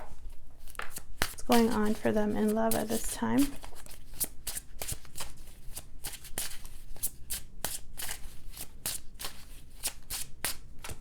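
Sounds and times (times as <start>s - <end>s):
cards being shuffled by hand: 0.1s - 11.0s.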